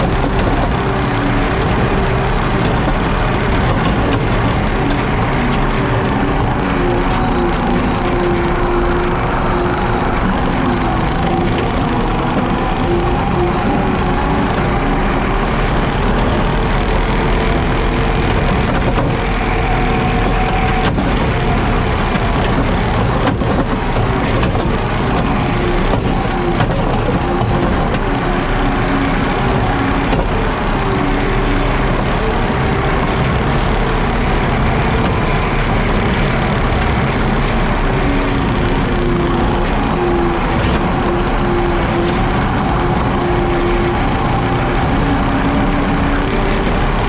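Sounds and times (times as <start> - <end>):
diesel engine running steadily: 0.0 - 47.0.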